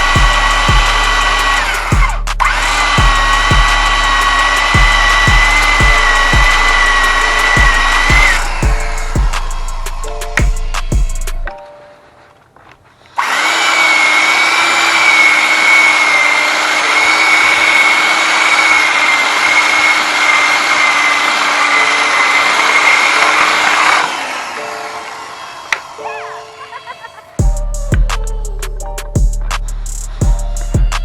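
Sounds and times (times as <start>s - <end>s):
electric power tool running: 0.0s - 11.6s, 13.1s - 27.4s.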